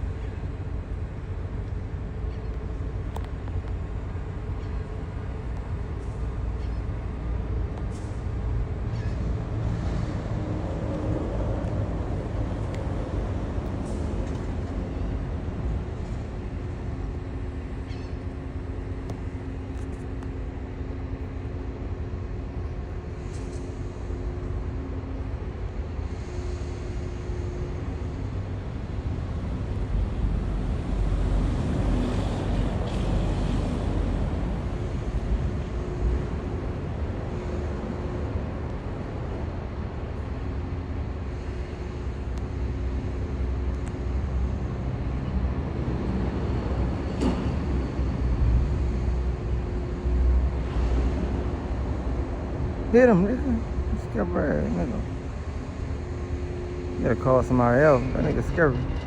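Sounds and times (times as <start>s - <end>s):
faint droning hum: 0.0s - 59.0s.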